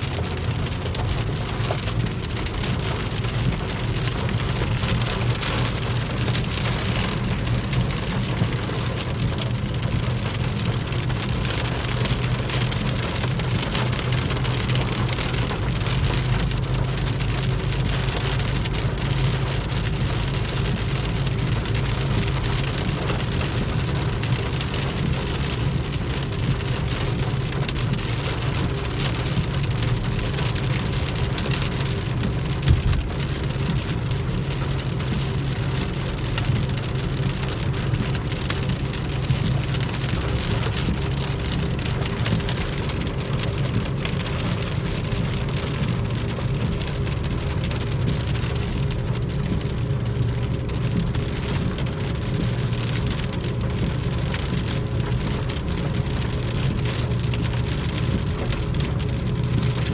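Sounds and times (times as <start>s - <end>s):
heavy rain on car roof: 0.0s - 59.9s.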